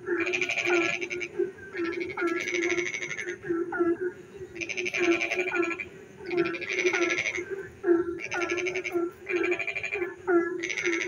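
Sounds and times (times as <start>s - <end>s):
frog rattling pulsed call: 0.0s - 11.0s
low pulsing frog call: 0.0s - 11.0s.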